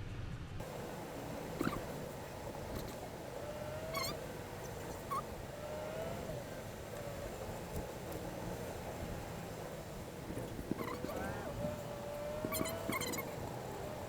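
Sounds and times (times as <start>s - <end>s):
faint drawn-out whining tones: 0.0s - 14.0s
road rumble inside a vehicle: 0.4s - 14.0s.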